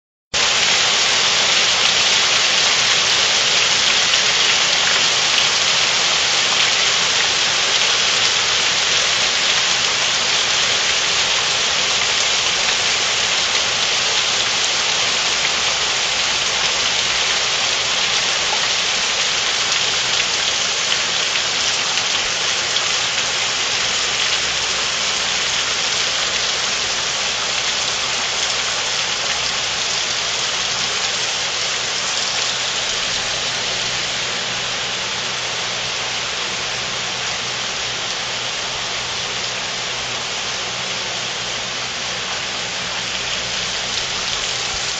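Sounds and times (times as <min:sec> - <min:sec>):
heavy rain on leaves and deck: 0:00.3 - 0:44.9.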